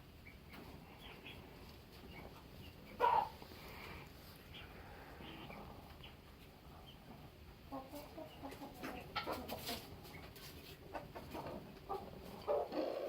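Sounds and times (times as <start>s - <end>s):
chicken clucking: 0.2s - 3.8s, 4.4s - 13.0s.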